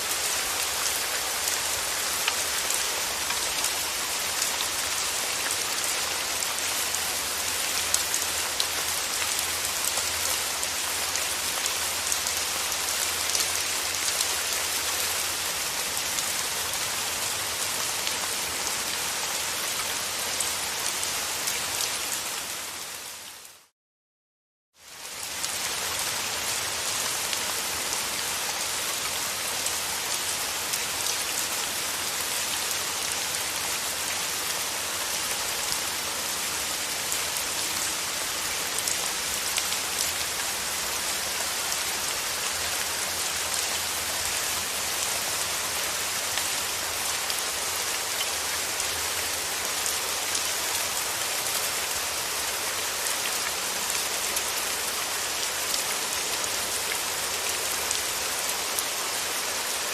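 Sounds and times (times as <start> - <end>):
steady rain: 0.0 - 23.7, 24.8 - 59.9.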